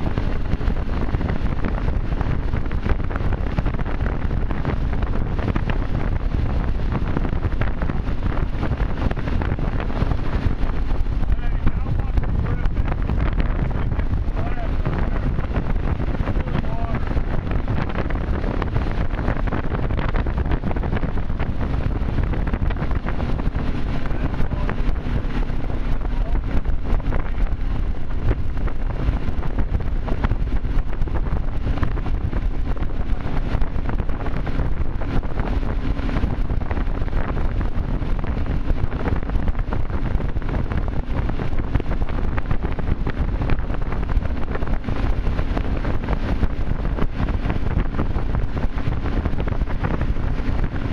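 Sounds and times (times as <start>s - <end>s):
boat engine drone: 0.0s - 50.9s
rush of boat wake: 0.0s - 50.9s
wind buffeting microphone: 0.0s - 50.9s.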